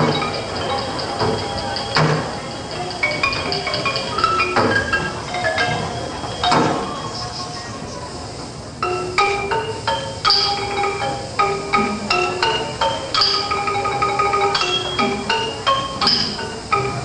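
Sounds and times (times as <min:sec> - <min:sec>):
mallet percussion melody: 0:00.0 - 0:07.1, 0:08.8 - 0:17.0.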